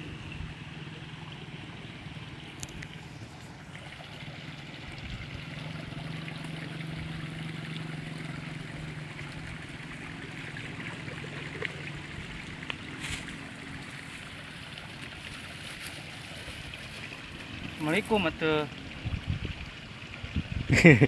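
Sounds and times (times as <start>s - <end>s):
distant motor hum: 0.0s - 20.4s
water trickling in a channel: 0.0s - 21.0s.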